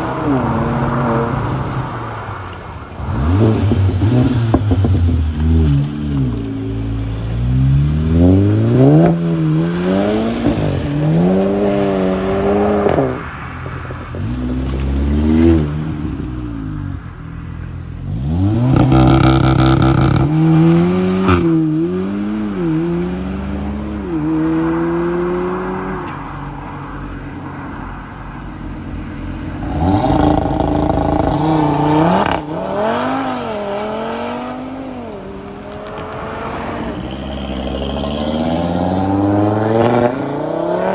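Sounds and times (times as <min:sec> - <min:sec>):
sports car engines accelerating: 0:00.0 - 0:40.9.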